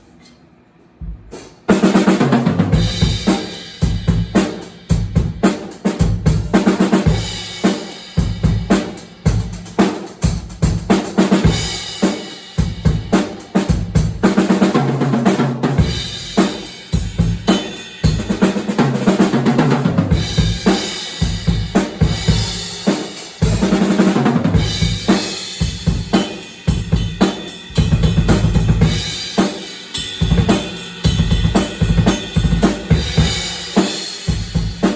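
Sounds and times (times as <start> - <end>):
drum kit playing: 1.0 - 34.9.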